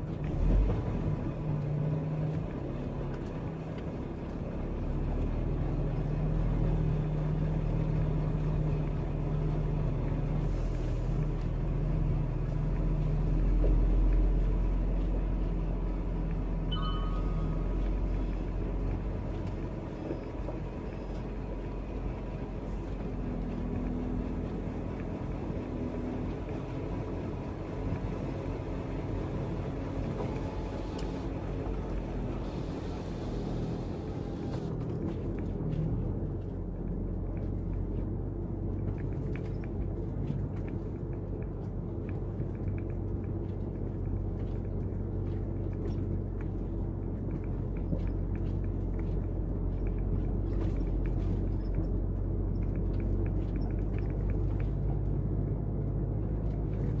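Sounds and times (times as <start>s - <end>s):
truck engine humming: 0.0s - 57.0s.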